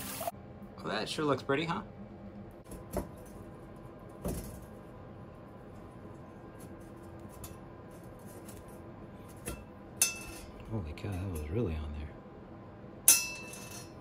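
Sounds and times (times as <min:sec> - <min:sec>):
faint steady hum: 0:00.1 - 0:14.0.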